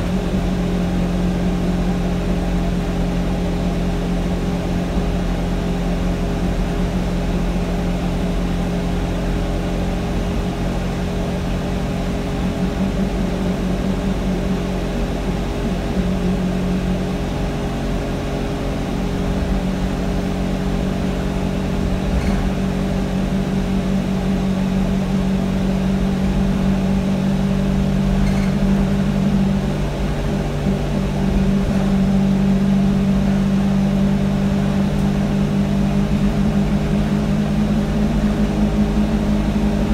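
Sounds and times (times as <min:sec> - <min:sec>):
bus engine low drone: 0:00.0 - 0:39.9.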